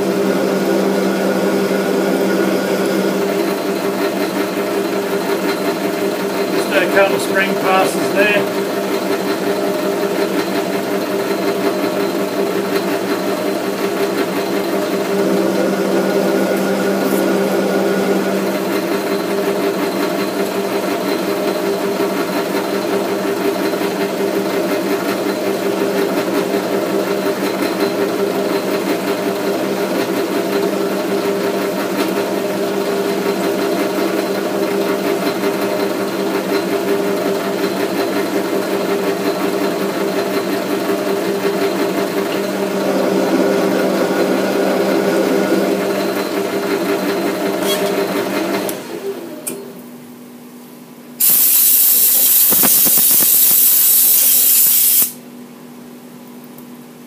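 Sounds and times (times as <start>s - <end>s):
lathe motor humming: 0.0s - 49.4s.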